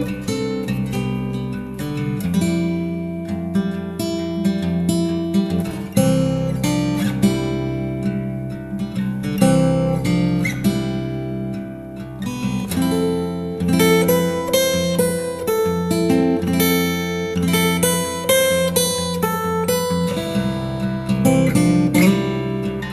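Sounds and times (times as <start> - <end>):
acoustic guitar music: 0.0 - 22.9.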